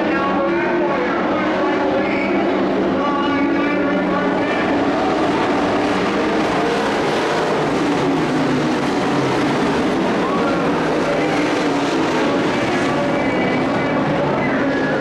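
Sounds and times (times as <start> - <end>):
racing truck engines: 0.0 - 15.0.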